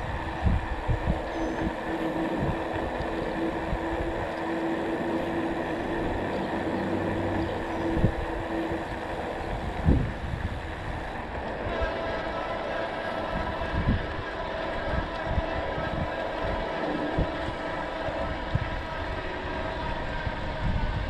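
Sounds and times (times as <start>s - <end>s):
road noise: 0.0s - 21.0s
steady hum: 0.0s - 21.0s
wind rushing over microphone: 0.0s - 21.0s.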